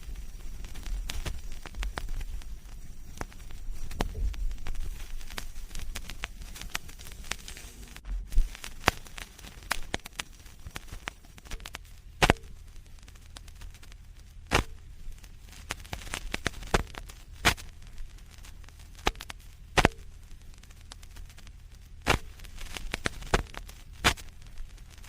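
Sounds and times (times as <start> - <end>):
faint hiss: 0.0 - 25.0
low hum: 0.0 - 25.0
vinyl crackles and pops: 0.0 - 25.0.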